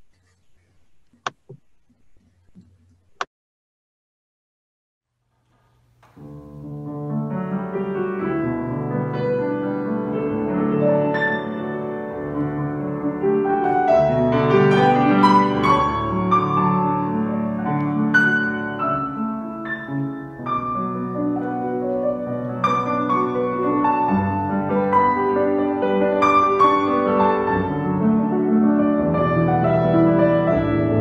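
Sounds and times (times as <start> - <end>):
solo grand piano piece: 5.9 - 31.0.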